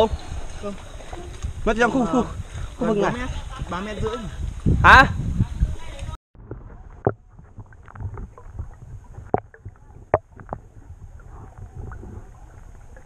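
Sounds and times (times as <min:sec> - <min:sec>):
low underwater rumble: 0:00.0 - 0:13.0.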